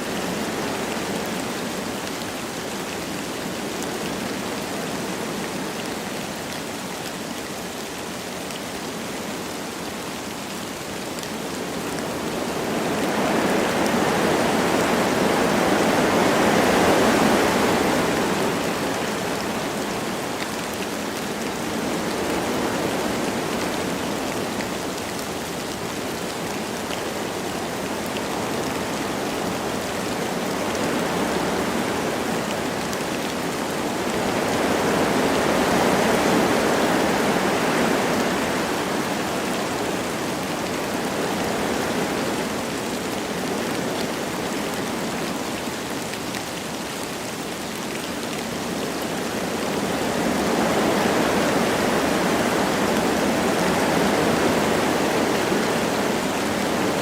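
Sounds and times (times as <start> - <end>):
light rain: 0.0 - 57.0
wind gusting through trees: 0.0 - 57.0.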